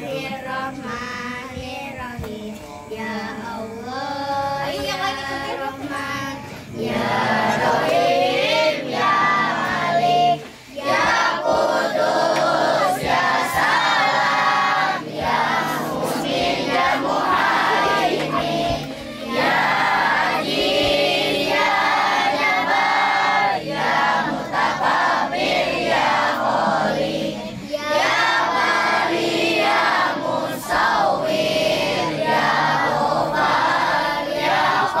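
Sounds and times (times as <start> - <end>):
girls singing into a microphone: 0.0 - 35.0.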